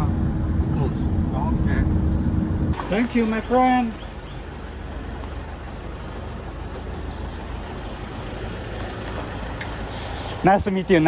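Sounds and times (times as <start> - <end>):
motor vehicle engine rumble: 0.0 - 11.0.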